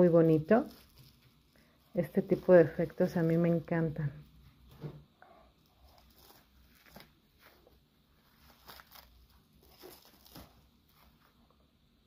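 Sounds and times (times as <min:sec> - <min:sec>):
bubble wrap crinkling: 0:00.0 - 0:04.8, 0:05.5 - 0:11.4.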